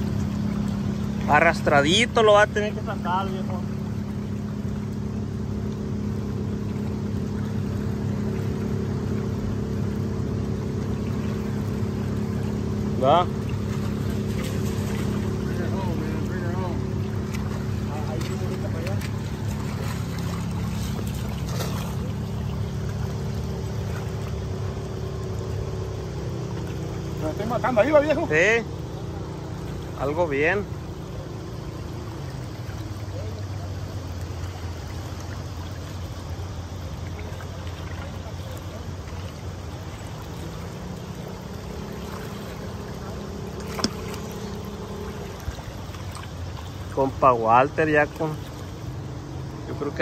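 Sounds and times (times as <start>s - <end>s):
boat engine humming: 0.0s - 50.0s
river water rushing: 0.0s - 50.0s
wind: 0.0s - 50.0s.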